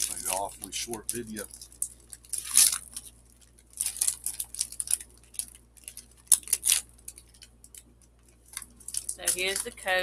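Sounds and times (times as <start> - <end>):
card packaging crinkling: 0.0 - 9.8.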